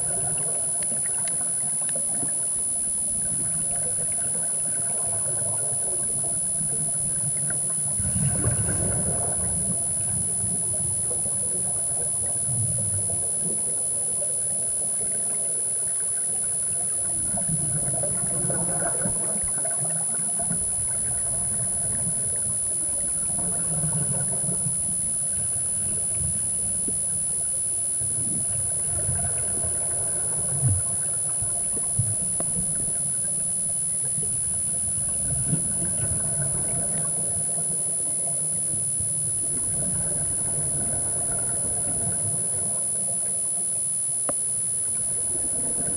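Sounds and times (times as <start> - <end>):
steady low hum: 0.0 - 45.9
underwater bubbles gurgling: 0.0 - 45.9.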